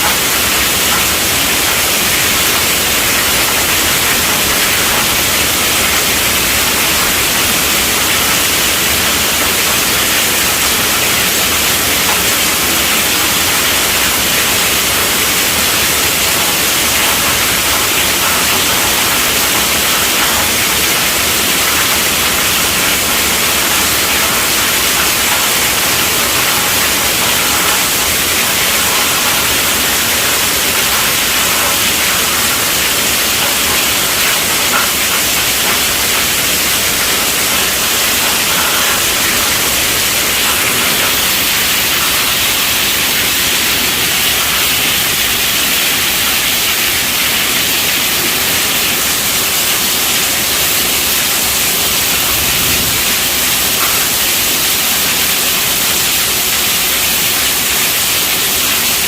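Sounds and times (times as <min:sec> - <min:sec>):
heavy rain on a tent roof: 0:00.0 - 0:59.0.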